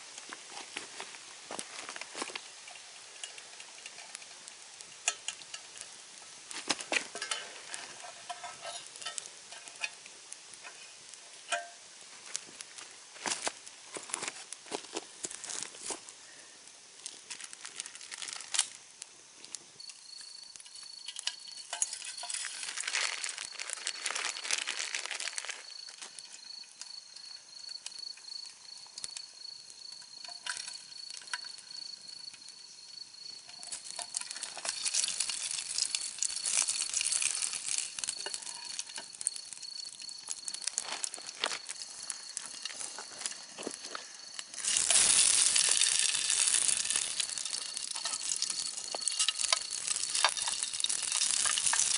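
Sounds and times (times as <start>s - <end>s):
food sizzling: 0.0s - 27.1s, 27.9s - 51.9s
campfire crackling and popping: 0.0s - 51.9s.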